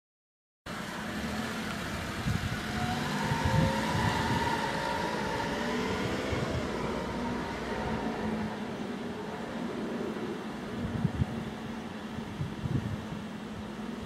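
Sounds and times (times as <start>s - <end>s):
vehicle engine rumbling: 0.7s - 14.0s.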